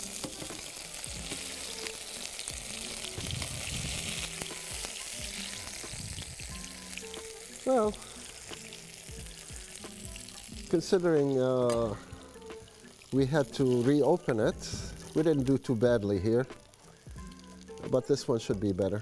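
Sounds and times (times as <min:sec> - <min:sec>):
tortilla sizzling in pan: 0:00.0 - 0:19.0.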